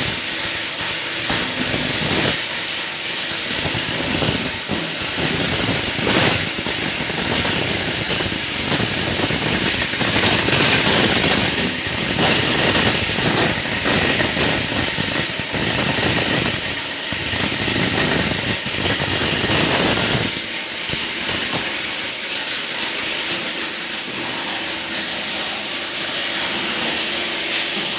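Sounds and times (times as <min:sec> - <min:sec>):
plastic grinder crunching plastic: 0:00.0 - 0:27.9.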